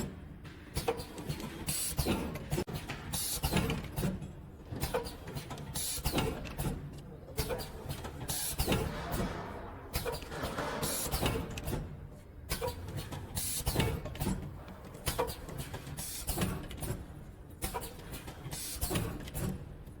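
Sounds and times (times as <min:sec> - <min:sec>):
packaging machine clicks and hisses: 0:00.7 - 0:06.8, 0:07.4 - 0:19.7.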